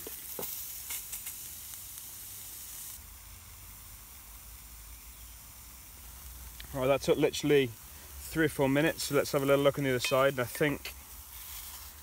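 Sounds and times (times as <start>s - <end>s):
small crackles: 0.0s - 3.1s, 4.4s - 12.0s
meat sizzling in a metal dish: 0.0s - 12.0s.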